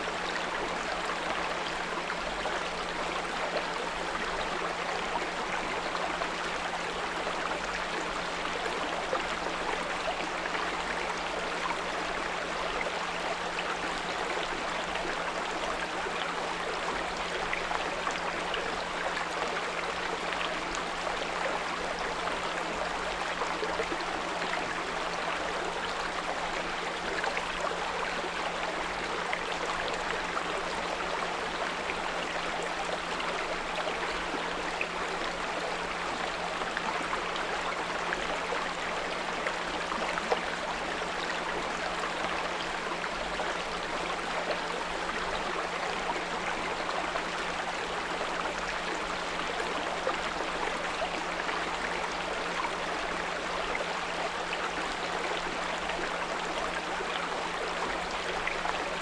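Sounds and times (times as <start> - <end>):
brook running water: 0.0 - 59.0.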